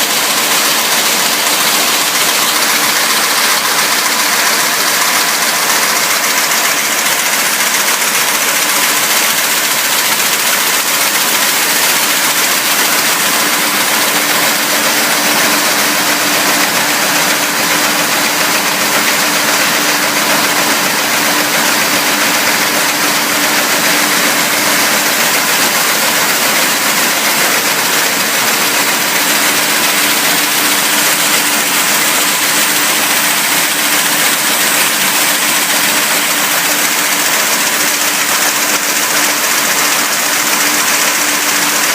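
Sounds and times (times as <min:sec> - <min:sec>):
welding machine running: 0:00.0 - 0:41.9.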